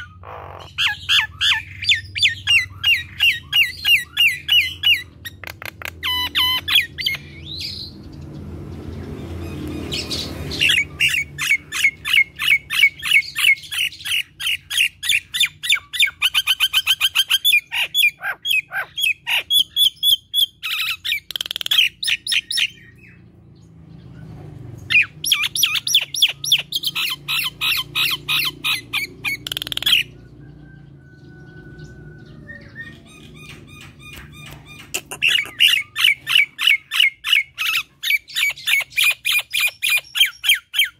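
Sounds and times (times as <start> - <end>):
myna bird chattering song: 0.0 - 40.9.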